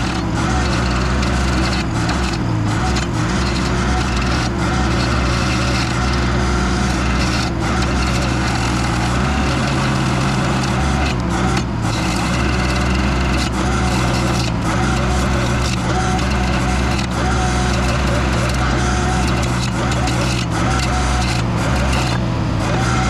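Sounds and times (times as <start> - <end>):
loader engine running: 0.0 - 23.0
stump grinder grinding wood: 0.0 - 23.0.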